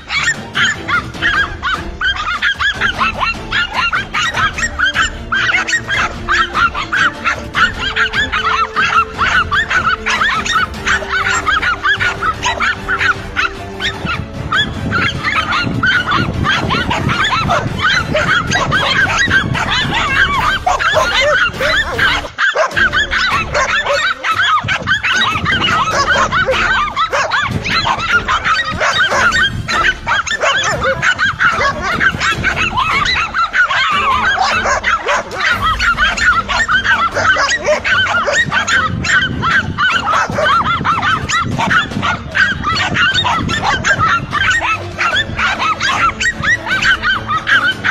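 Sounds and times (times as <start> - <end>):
dogs barking: 0.0 - 47.9.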